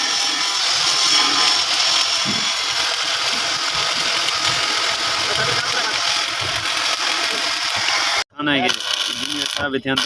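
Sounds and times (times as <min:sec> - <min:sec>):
power tool running: 0:00.0 - 0:10.0.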